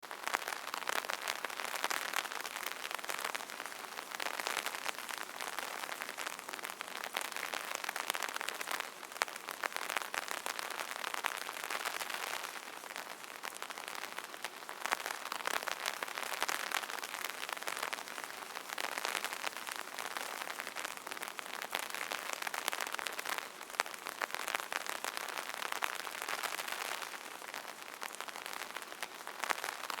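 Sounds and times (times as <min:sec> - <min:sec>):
rain pattering on umbrella: 0:00.0 - 0:30.0.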